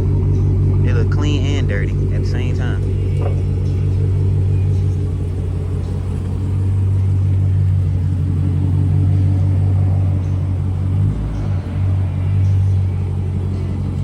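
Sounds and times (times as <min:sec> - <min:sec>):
deep car exhaust drone: 0:00.0 - 0:14.0.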